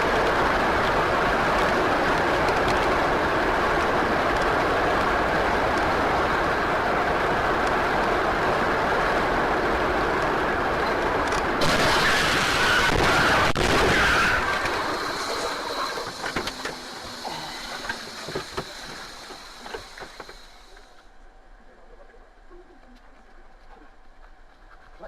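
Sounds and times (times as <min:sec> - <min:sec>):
rushing vehicle noise: 0:00.0 - 0:21.1.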